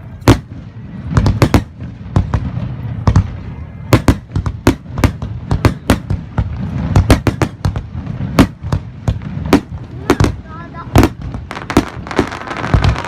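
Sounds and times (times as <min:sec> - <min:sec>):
firework bangs and cracks: 0:00.0 - 0:13.0
rumble of firework booms: 0:00.2 - 0:13.0.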